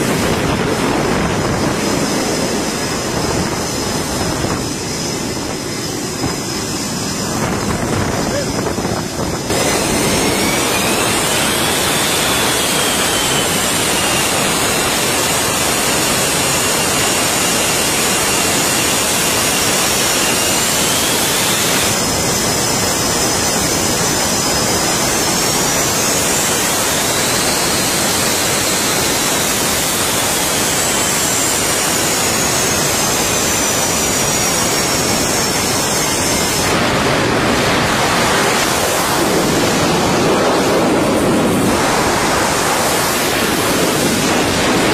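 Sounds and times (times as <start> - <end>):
jet engines roaring: 0.0 - 44.9
turbine whine: 0.0 - 44.9.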